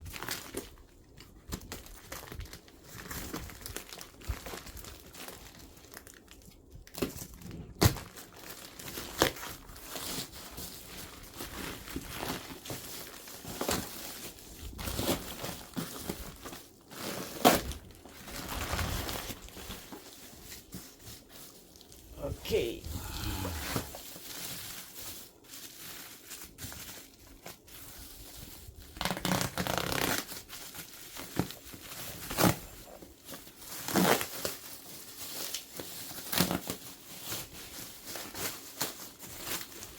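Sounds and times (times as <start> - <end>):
packaging crinkling and tearing: 0.0 - 39.9.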